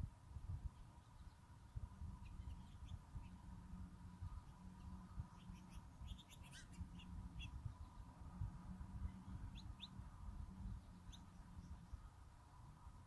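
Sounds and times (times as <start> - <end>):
low rumbling background noise: 0.0 - 13.0
faint bird chirps: 0.7 - 3.4, 4.2 - 12.2.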